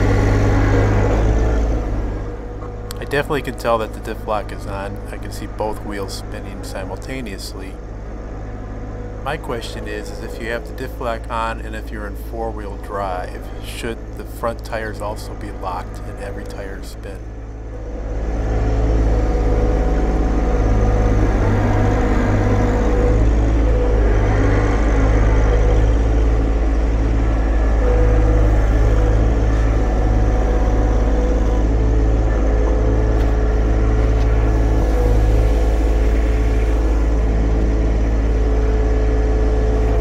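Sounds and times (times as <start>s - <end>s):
steady engine whine: 0.0s - 40.0s
tractor diesel engine running: 0.0s - 40.0s.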